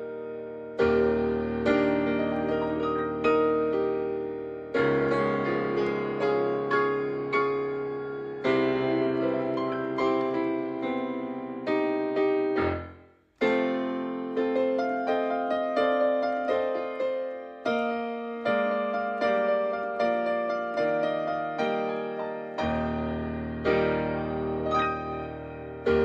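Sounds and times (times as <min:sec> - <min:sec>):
slow piano piece: 0:00.0 - 0:26.0.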